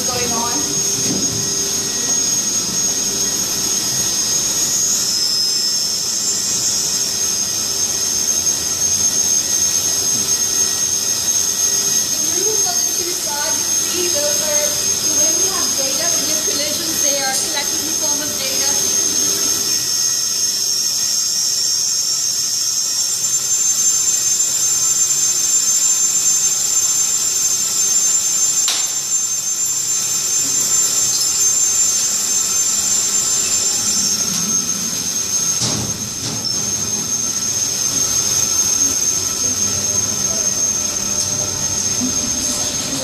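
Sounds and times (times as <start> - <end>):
ventilation machinery whine: 0.0 - 43.0.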